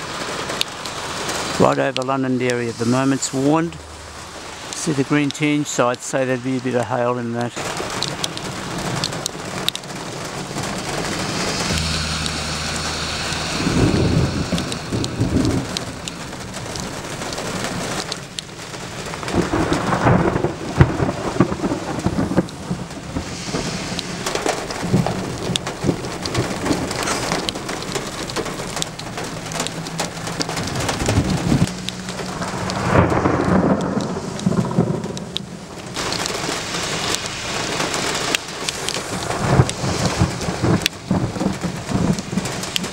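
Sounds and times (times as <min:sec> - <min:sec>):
steady rain hiss: 0:00.0 - 0:42.9
thunder rumbling: 0:07.6 - 0:42.9.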